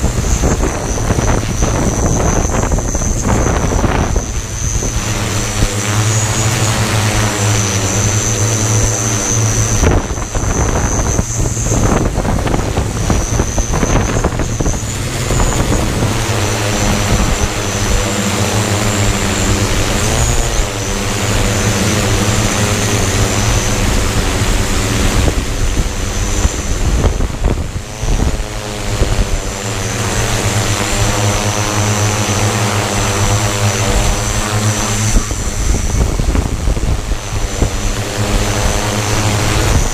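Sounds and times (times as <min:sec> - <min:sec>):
drone motors humming and whining: 0:00.0 - 0:39.9
gusty wind: 0:00.0 - 0:39.9.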